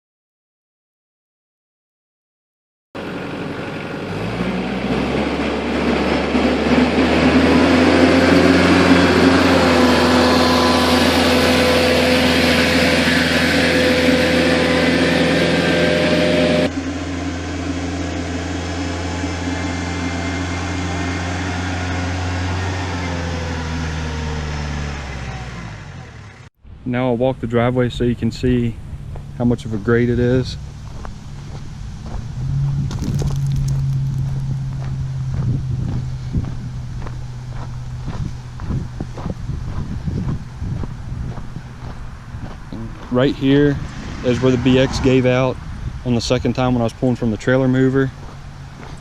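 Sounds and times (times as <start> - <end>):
diesel tractor engine running: 3.0 - 49.0.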